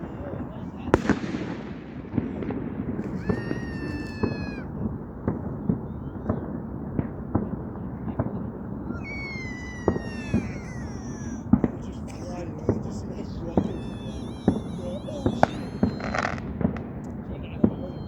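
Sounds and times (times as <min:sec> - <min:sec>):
whistling fireworks: 0:00.0 - 0:18.0
fireworks bangs and pops: 0:00.9 - 0:06.5, 0:08.2 - 0:18.0.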